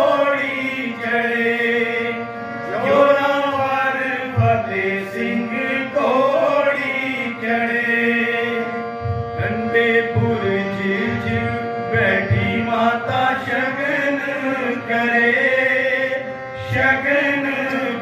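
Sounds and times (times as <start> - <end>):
harmonium chords: 0.0 - 18.0
men singing long notes: 0.0 - 18.0.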